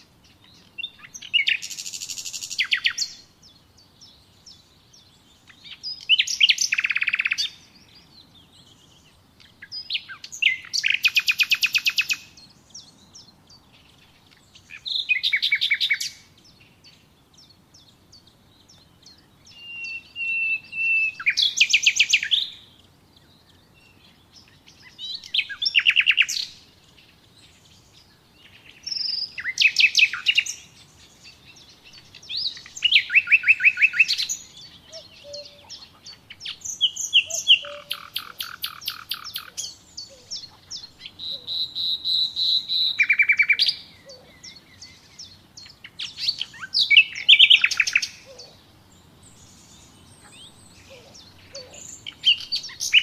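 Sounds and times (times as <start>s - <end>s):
songbird trilling: 0.0s - 53.0s.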